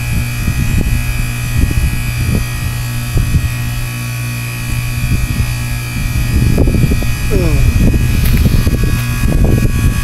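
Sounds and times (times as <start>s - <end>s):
heat pump buzzing hum: 0.0s - 10.0s.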